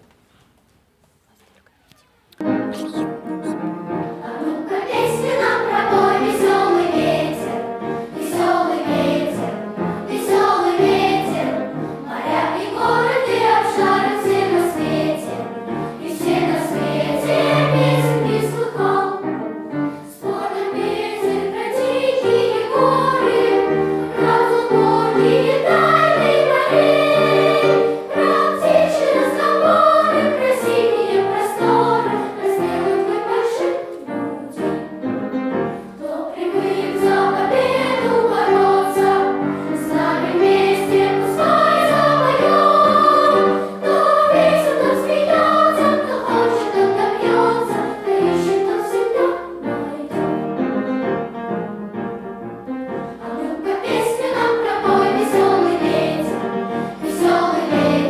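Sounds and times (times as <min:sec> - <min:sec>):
children's choir singing: 0:02.4 - 0:51.6, 0:52.7 - 0:58.0
piano accompaniment: 0:02.4 - 0:58.0.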